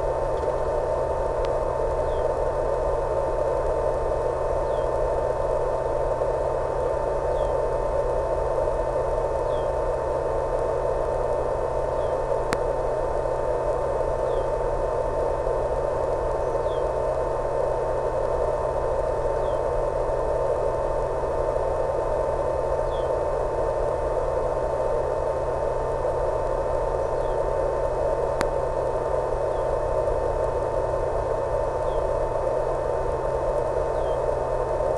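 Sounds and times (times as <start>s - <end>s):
constant hum tone: 0.0s - 34.9s
radio static hiss: 0.0s - 34.9s.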